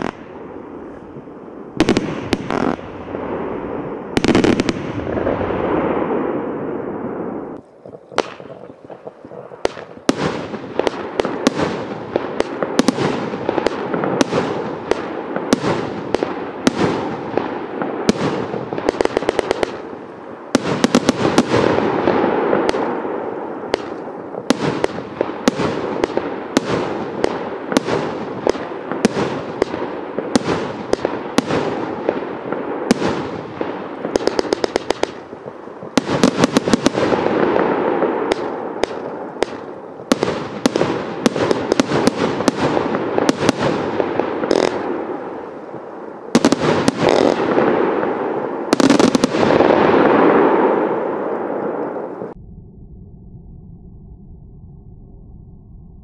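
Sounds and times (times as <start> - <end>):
firework crackle: 0.0 - 52.4
firework shots and bursting shells: 0.0 - 52.4.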